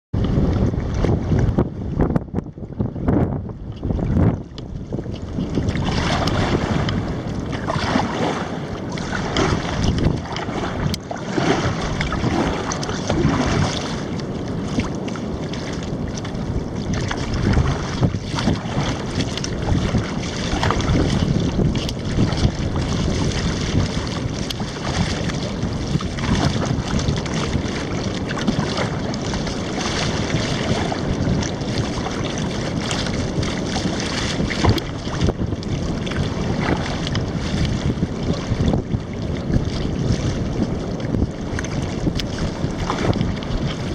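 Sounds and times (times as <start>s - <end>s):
wind buffeting microphone: 0.1s - 43.9s
water sloshing and splashing: 0.2s - 43.9s.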